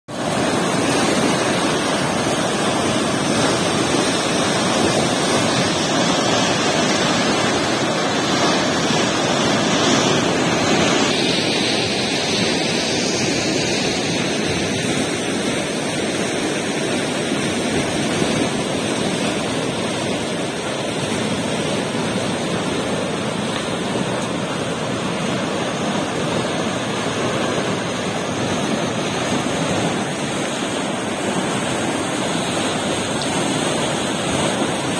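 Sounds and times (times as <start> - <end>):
water gushing through sluice gate: 0.1 - 34.9.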